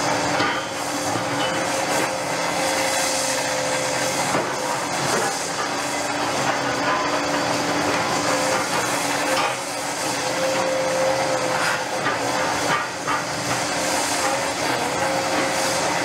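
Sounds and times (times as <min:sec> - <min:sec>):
excavator engine whining: 0:00.0 - 0:16.0.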